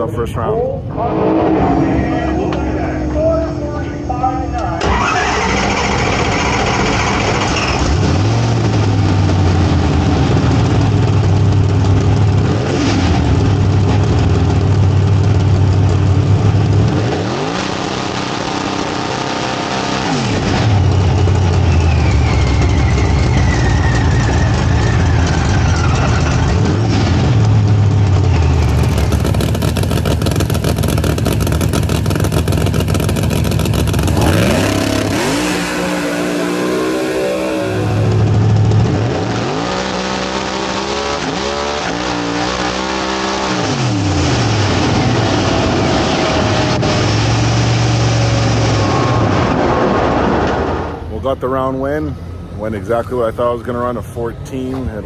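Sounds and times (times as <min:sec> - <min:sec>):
supercharger whine: 0:00.0 - 0:51.1
drag car engine revving: 0:00.9 - 0:51.1.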